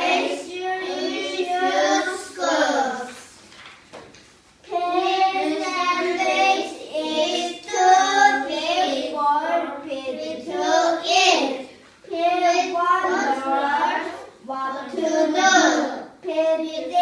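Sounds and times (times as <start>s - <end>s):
child singing: 0.0s - 3.2s, 4.7s - 17.0s.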